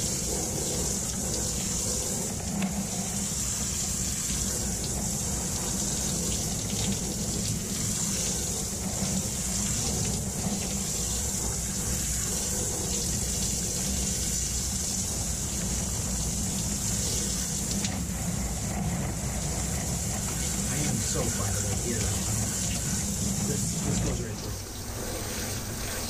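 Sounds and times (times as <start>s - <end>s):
shower spraying water: 0.0s - 26.0s.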